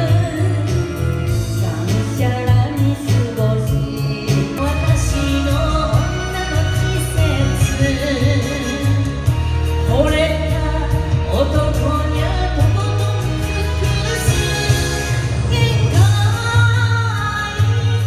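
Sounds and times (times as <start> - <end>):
backing music with bass and beat: 0.0 - 18.0
woman singing into microphone: 0.0 - 18.0.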